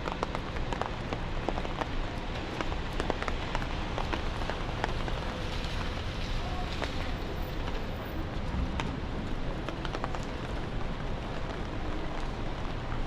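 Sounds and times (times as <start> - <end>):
low traffic rumble: 0.0 - 13.0
steady rain: 0.0 - 13.0.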